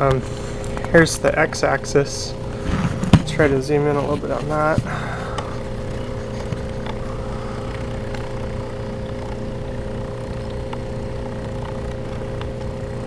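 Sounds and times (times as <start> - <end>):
motor whine: 0.0 - 13.0
stepper motors humming: 0.0 - 13.0.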